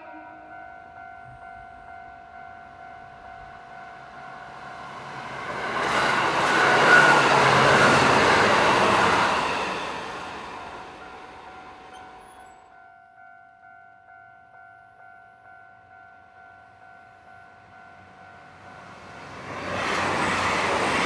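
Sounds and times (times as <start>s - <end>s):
level-crossing warning bell: 0.0s - 21.0s
train passing at speed: 0.1s - 12.6s, 16.7s - 21.0s.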